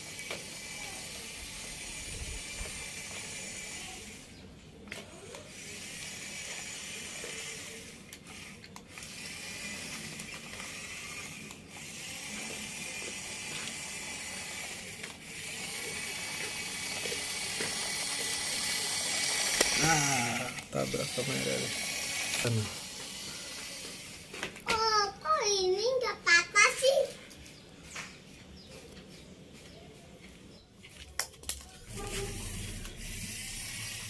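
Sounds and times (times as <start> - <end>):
toy motors and gearbox whirring: 0.0 - 28.0, 30.2 - 34.0.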